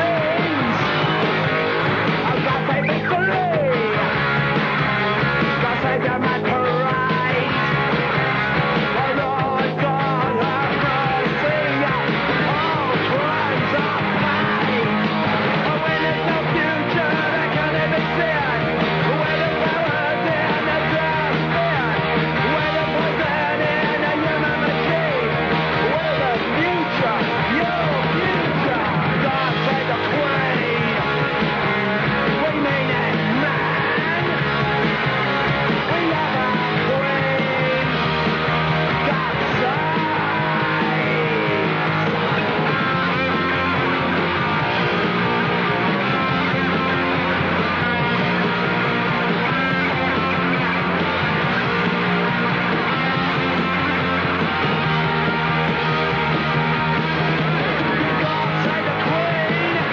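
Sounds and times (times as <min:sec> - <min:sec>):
punk rock band playing: 0:00.0 - 0:59.9.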